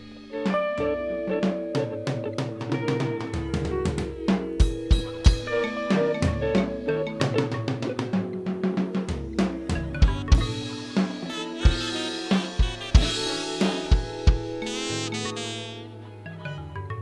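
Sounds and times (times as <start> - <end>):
song with drum beat: 0.0 - 15.9.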